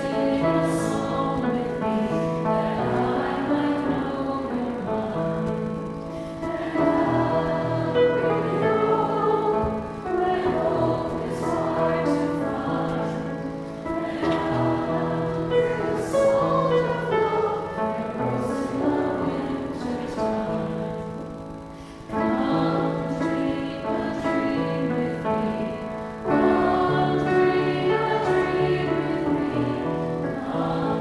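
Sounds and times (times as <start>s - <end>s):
congregation singing a hymn: 0.0s - 31.0s
low sustained accompaniment: 0.0s - 31.0s.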